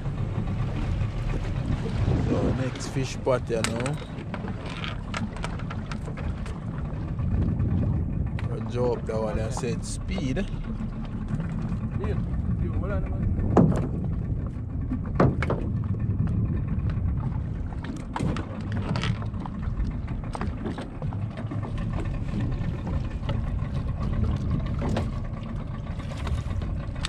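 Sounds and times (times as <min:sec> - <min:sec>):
boat engine rumble: 0:00.0 - 0:27.0.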